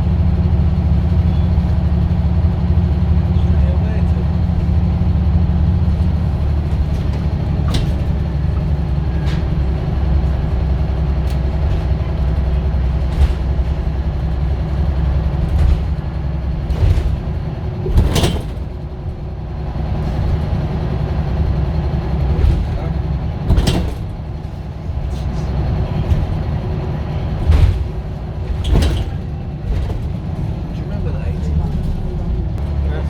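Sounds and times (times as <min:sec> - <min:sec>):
diesel bus engine drone: 0:00.0 - 0:33.0.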